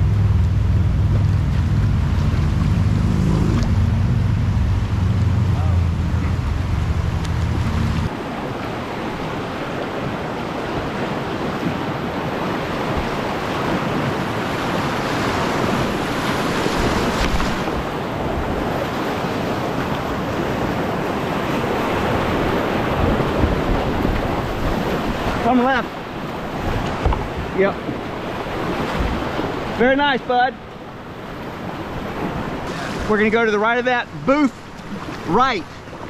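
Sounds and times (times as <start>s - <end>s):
whitewater rapids rushing: 1.2s - 36.0s.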